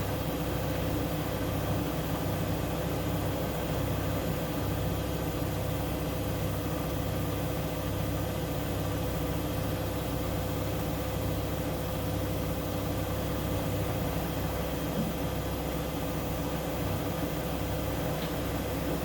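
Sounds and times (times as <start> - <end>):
washing machine running: 0.0 - 19.0.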